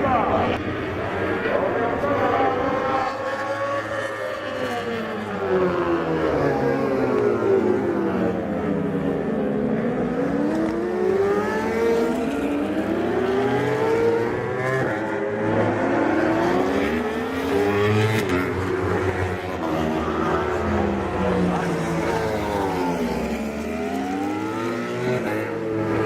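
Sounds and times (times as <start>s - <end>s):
race motorcycles accelerating: 0.0s - 26.0s.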